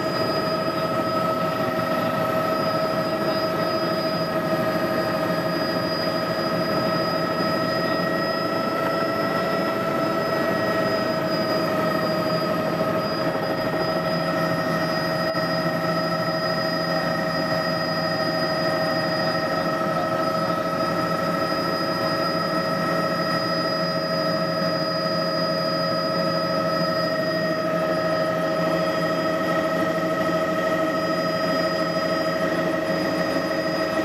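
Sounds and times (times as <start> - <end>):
helicopter engine and rotors: 0.0 - 34.0.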